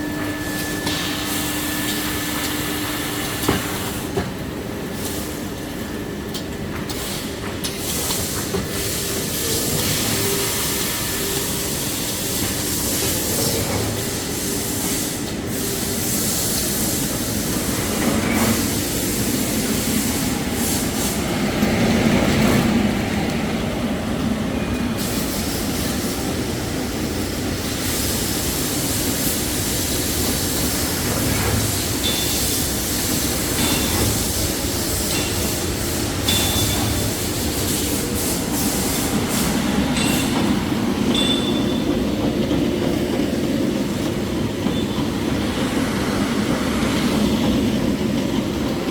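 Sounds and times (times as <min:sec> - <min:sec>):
factory machinery running: 0:00.0 - 0:48.9.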